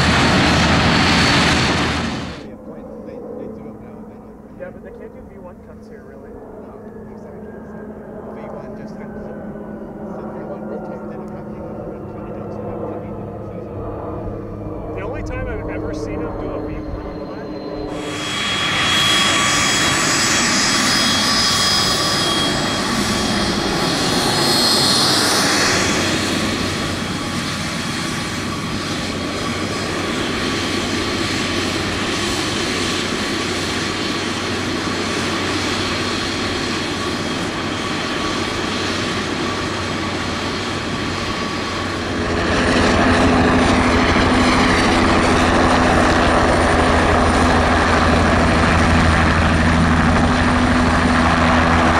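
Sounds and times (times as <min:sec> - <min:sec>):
helicopter rotor beating: 0:00.0 - 0:51.9
jet engines whining: 0:00.0 - 0:51.9.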